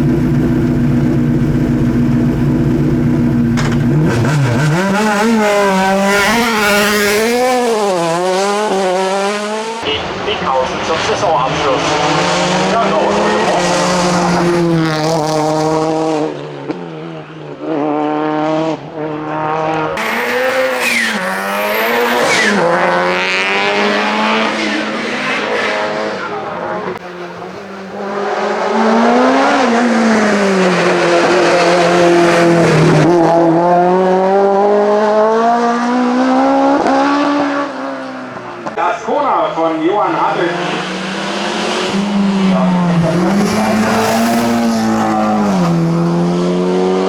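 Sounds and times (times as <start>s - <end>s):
racing car engine revving: 0.0s - 47.0s.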